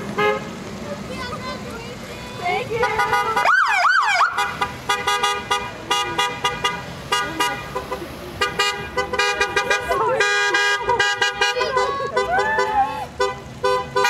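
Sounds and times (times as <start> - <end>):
car horns honking: 0.0 - 0.6, 2.6 - 14.0.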